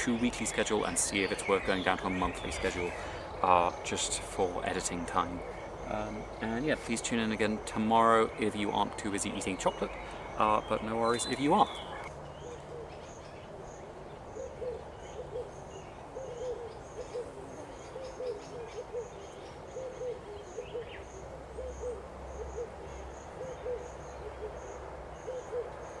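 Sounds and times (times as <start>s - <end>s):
owl hooting: 0.0s - 26.0s.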